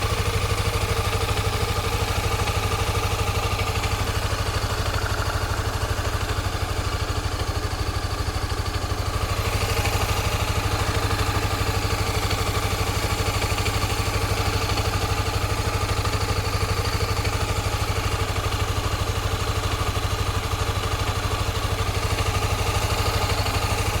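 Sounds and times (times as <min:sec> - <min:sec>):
motorcycle engine idling: 0:00.0 - 0:24.0
odd engine noise: 0:00.0 - 0:24.0.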